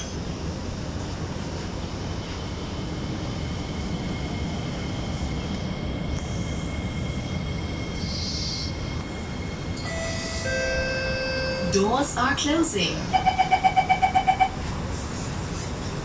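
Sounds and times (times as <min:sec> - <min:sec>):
train equipment hum and whine: 0:00.0 - 0:16.0.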